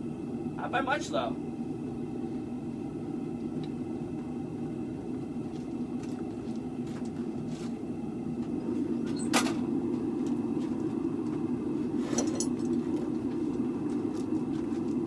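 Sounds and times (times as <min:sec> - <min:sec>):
low machine drone: 0:00.0 - 0:15.0.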